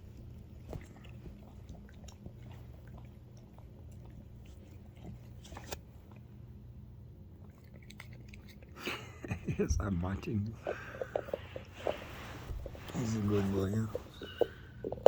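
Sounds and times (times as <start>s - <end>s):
dog chewing on bone: 0.0s - 6.6s, 7.4s - 8.8s, 10.6s - 15.0s.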